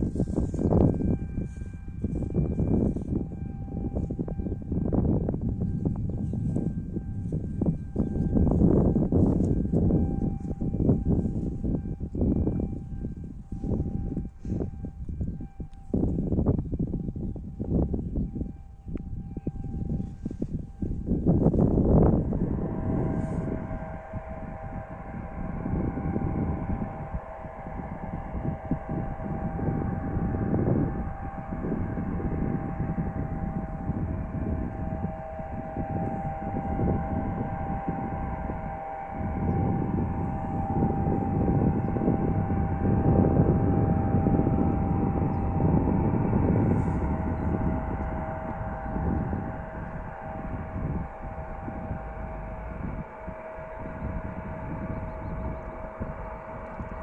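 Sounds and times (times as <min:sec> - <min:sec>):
jet engine rumble: 0:00.0 - 0:57.0
jet engine whine: 0:00.0 - 0:57.0.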